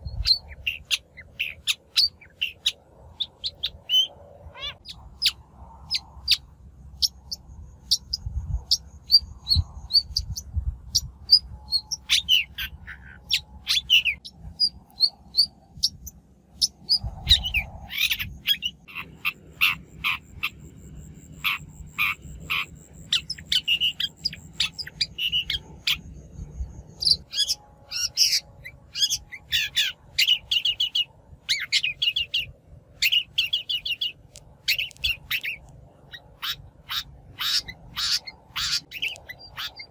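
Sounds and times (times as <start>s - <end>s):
shrike calling and singing: 0.0s - 39.9s.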